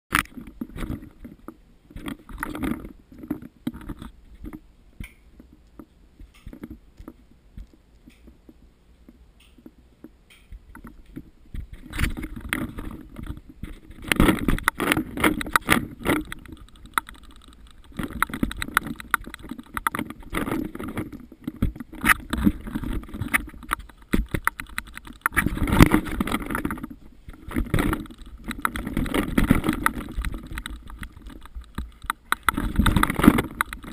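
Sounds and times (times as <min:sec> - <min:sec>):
rustling scraping and knocks: 0:00.1 - 0:04.7, 0:10.6 - 0:33.9.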